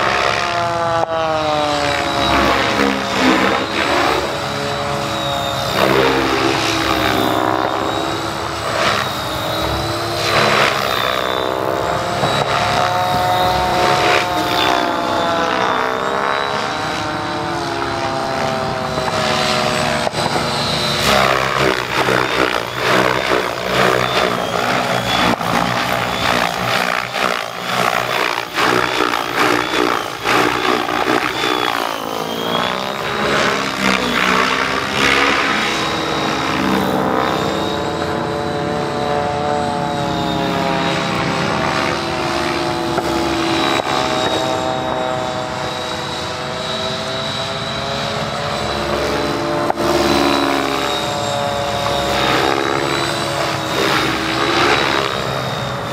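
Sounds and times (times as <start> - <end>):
helicopter rotor blades chopping: 0.0 - 55.9
high electric motor whine: 0.0 - 55.9.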